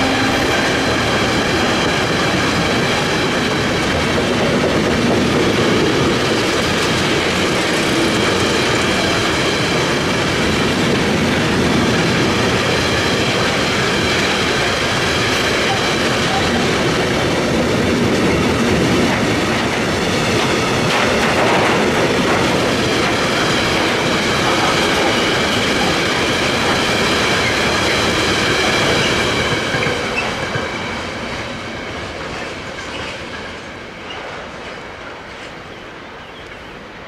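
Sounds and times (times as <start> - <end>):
steel wheels clattering on rail: 0.0 - 36.9.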